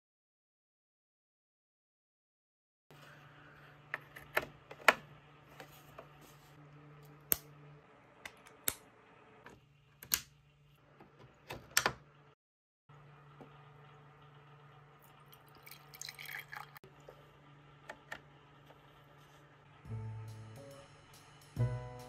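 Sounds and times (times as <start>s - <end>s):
low steady hum: 2.9s - 21.8s.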